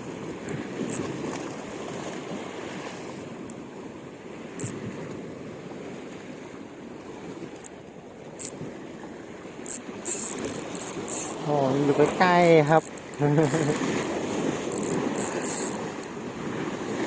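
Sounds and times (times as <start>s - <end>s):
surf washing on shore: 0.0s - 17.0s.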